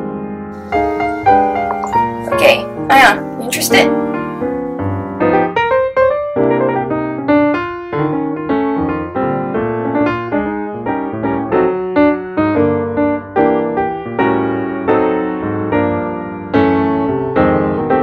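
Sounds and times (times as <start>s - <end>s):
lively piano music: 0.0s - 18.0s.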